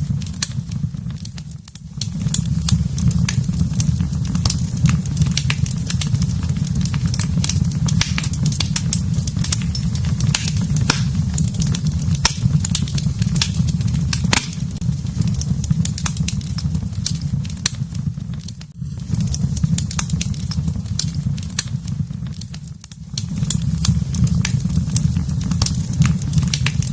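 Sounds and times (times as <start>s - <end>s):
low fire rumble: 0.0s - 26.9s
wood fire crackling and popping: 0.0s - 26.9s.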